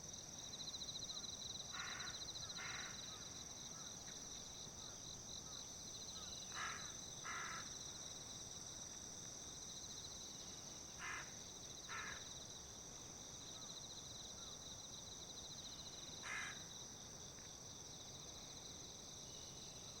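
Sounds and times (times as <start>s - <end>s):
insects trilling: 0.5s - 8.9s, 9.7s - 20.0s.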